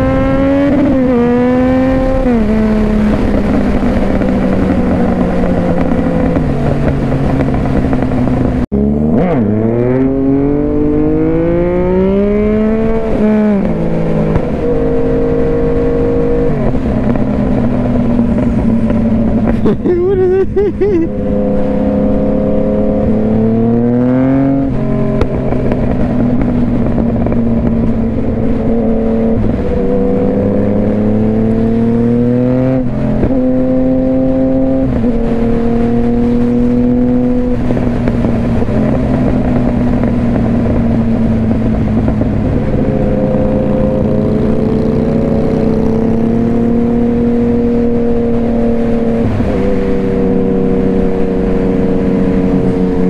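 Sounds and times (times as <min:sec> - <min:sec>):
motorcycle engine accelerating: 0:00.0 - 0:53.0
wind rush: 0:00.0 - 0:53.0.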